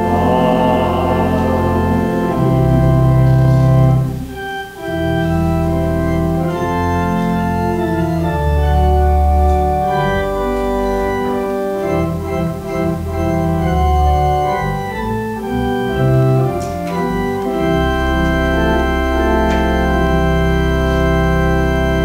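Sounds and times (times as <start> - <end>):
organ playing chords: 0.0 - 22.0.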